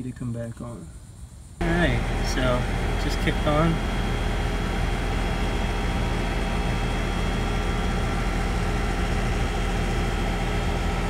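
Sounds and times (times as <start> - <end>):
compressor hum: 0.0 - 11.0
condenser fan rushing: 1.5 - 11.0.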